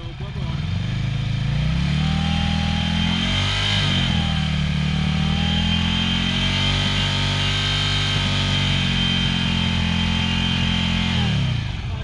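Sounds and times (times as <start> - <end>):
motorcycle engine revving steadily: 0.0 - 12.0.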